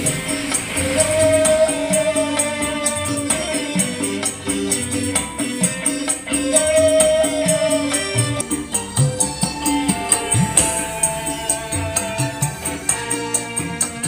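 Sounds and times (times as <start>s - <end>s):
loud music through a loudspeaker: 0.0s - 14.0s.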